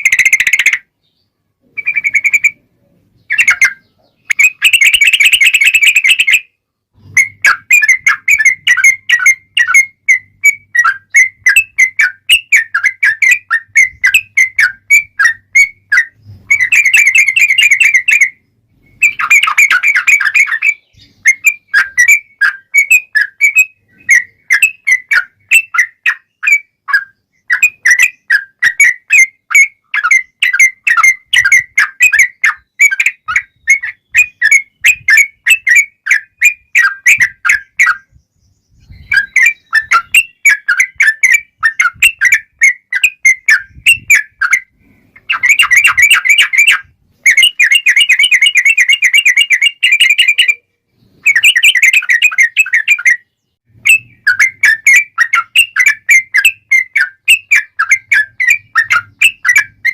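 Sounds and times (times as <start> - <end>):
bulbul singing chattering notes: 0.0 - 0.9, 1.6 - 59.9
fast dense bird trill: 0.0 - 59.9.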